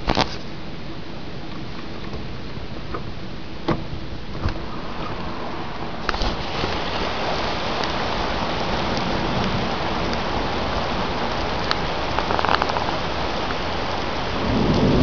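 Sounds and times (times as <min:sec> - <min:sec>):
heavy rain on pavement and cars: 0:00.0 - 0:15.0.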